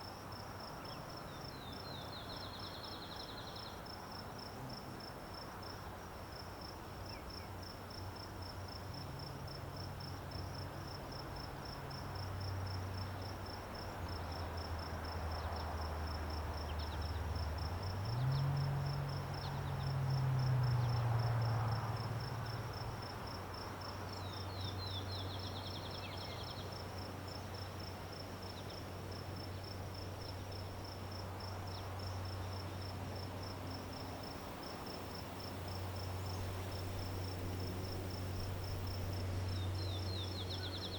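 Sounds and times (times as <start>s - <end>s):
cricket chirping trill: 6.6s - 40.9s.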